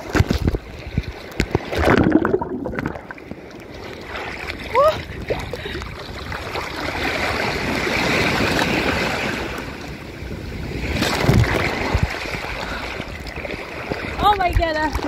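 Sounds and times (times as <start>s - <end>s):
surf washing and splashing: 0.0s - 15.0s.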